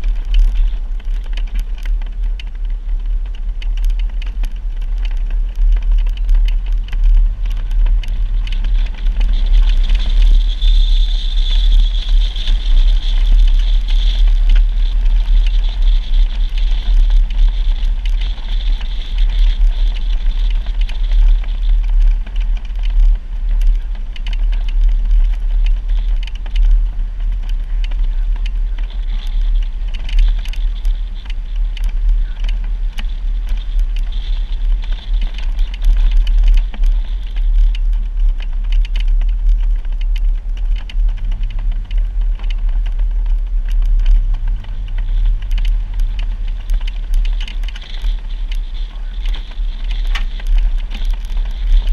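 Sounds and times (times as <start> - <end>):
small clicks and rattles: 0.0 - 51.9
vehicle driving deep rumble: 0.0 - 51.9.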